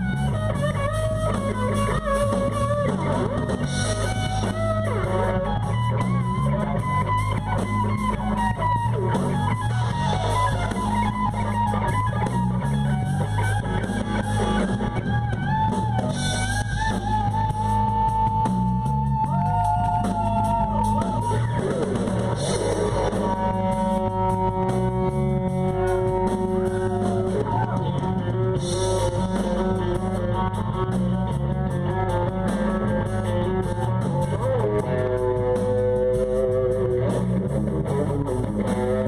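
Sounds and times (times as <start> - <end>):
bass guitar: 0.0 - 39.0
drum kit: 0.0 - 39.0
electric guitar lead with bent notes: 0.0 - 39.0.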